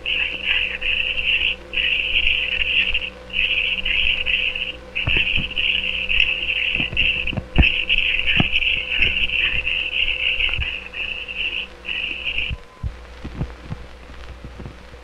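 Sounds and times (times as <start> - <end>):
film soundtrack crackle: 0.0 - 15.0
steady hum: 0.0 - 15.0.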